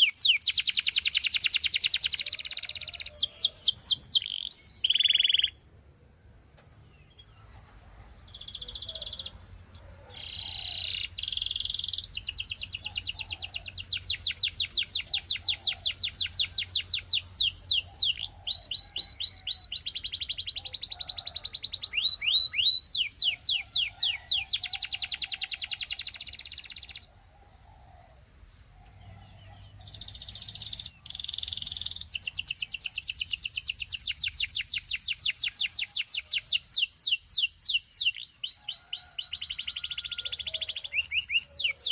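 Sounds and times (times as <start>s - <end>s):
canary singing trills: 0.0s - 5.7s, 6.8s - 27.1s, 28.7s - 41.9s.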